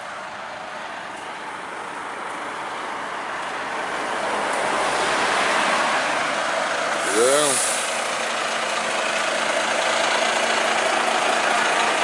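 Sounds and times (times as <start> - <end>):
vehicle tyre and road noise: 0.0 - 12.0.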